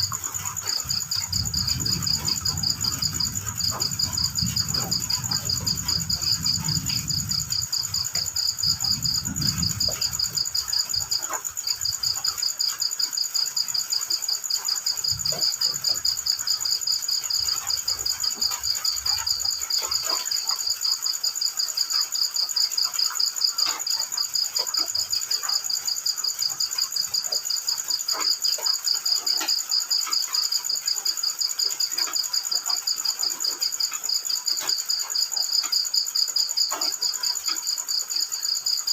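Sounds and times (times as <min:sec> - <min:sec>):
crickets chirping: 0:00.0 - 0:38.9
high insect tone: 0:00.0 - 0:38.9.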